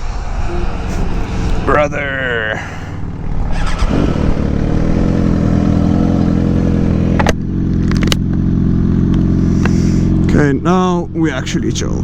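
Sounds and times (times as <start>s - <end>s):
motorcycle engine running: 1.4s - 12.0s.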